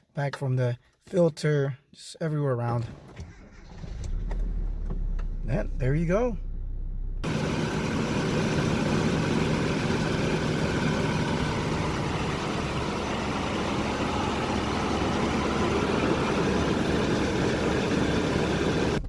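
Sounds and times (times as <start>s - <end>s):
pickup engine idling: 3.3s - 19.0s.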